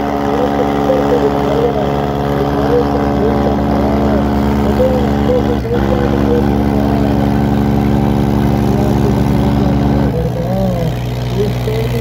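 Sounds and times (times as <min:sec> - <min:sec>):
crowd shouting: 0:00.0 - 0:11.1
heavy tractor diesel engines: 0:00.0 - 0:12.0.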